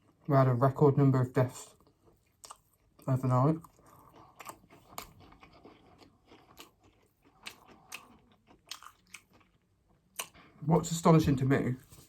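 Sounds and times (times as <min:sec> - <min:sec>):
person chewing food: 0:00.0 - 0:00.3, 0:01.6 - 0:11.0.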